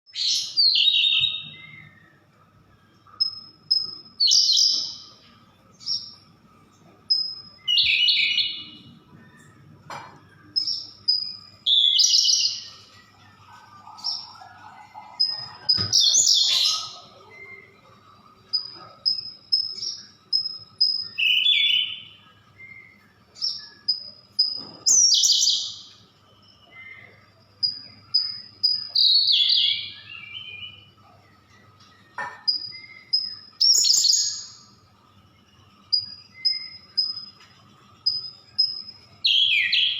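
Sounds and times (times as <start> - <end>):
bird singing: 0.1 - 39.9.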